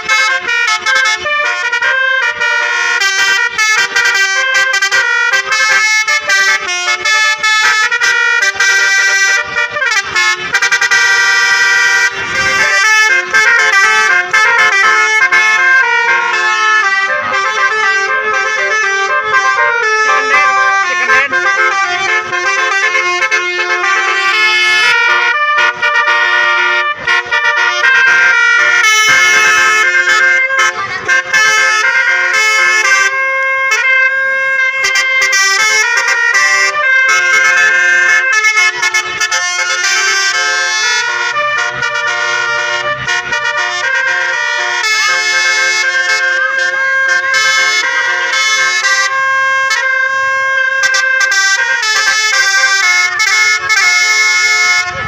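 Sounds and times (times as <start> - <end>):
bus horns playing melodies: 0.0 - 55.0.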